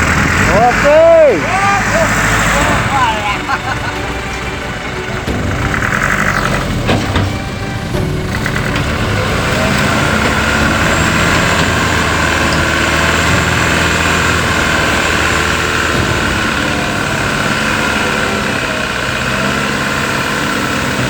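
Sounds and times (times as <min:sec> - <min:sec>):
truck engine idling low: 0:00.0 - 0:21.0.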